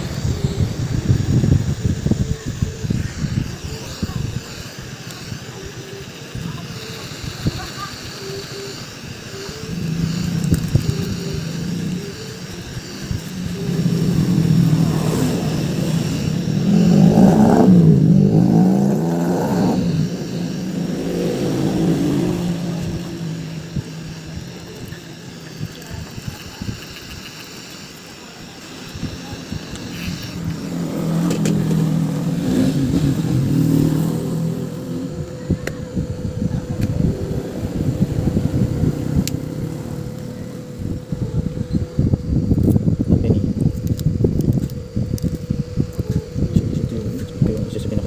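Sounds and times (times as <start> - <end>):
heat gun blowing air: 0.0 - 40.6
vehicle engine: 0.0 - 48.0.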